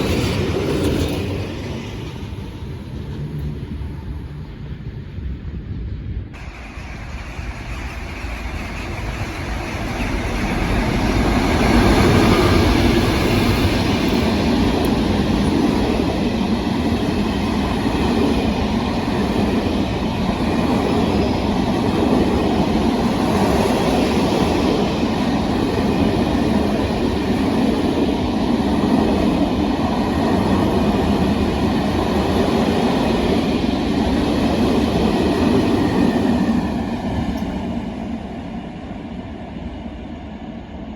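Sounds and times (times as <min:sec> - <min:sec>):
train rolling past: 0:00.0 - 0:40.9.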